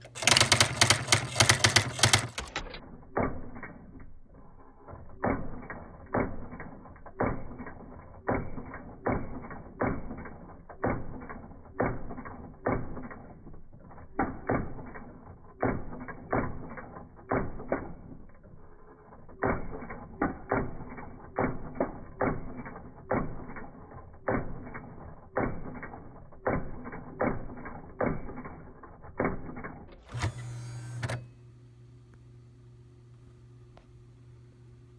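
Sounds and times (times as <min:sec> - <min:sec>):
electronic typewriter printing: 0:00.0 - 0:03.9, 0:04.6 - 0:31.3.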